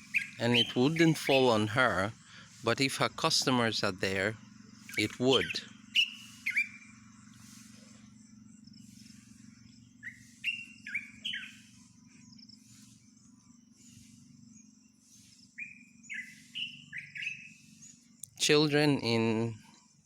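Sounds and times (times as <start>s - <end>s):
birds chirping: 0.0s - 20.0s
low steady hum: 0.0s - 20.0s.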